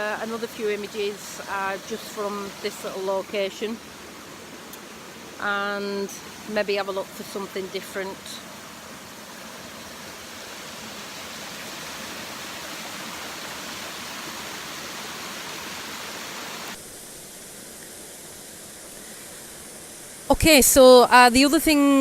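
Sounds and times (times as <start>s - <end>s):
waterfall rushing: 0.0s - 20.3s.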